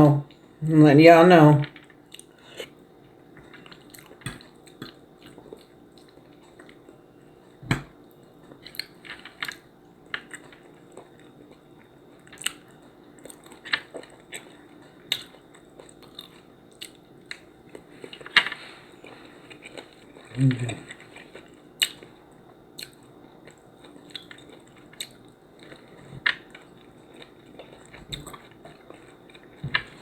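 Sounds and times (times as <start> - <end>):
person chewing: 1.8 - 2.8, 3.4 - 30.0.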